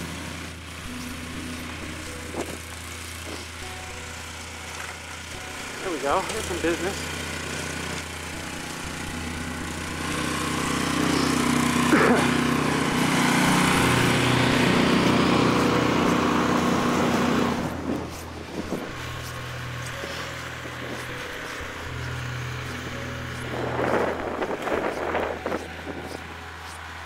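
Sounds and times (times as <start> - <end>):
snow-clearing machine engine: 0.0 - 27.0.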